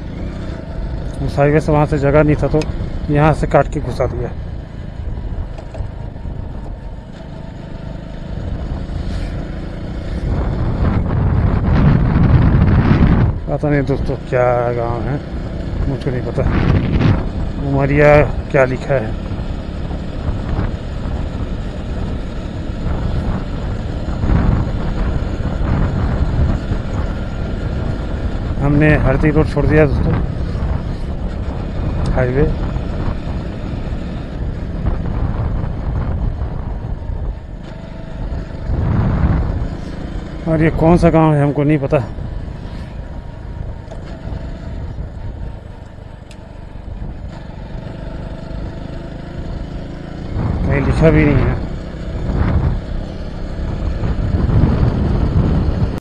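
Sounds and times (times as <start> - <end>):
low motorcycle rumble: 0.0 - 56.0
wind rushing over microphone: 0.0 - 56.0.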